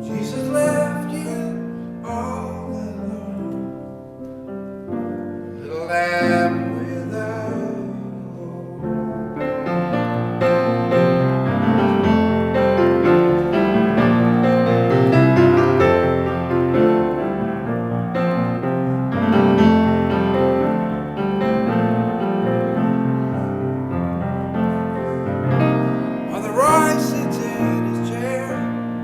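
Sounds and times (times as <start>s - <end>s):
piano ballad: 0.0s - 29.0s.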